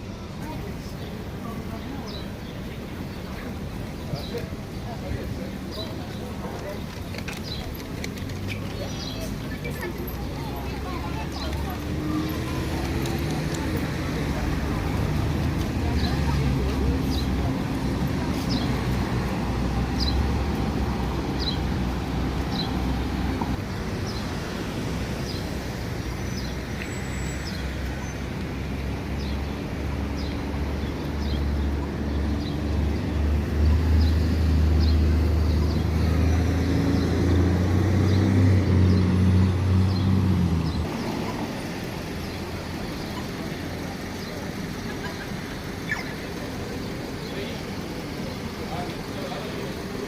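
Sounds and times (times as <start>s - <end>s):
large engine humming: 0.0s - 50.0s.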